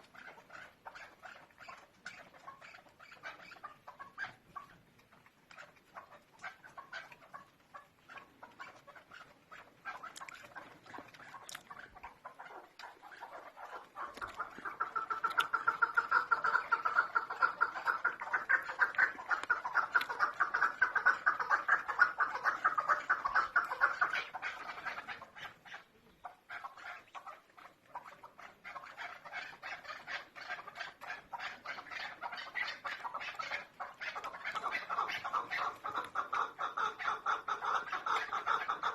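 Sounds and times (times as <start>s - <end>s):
partridge clucking calls: 0.0s - 38.9s.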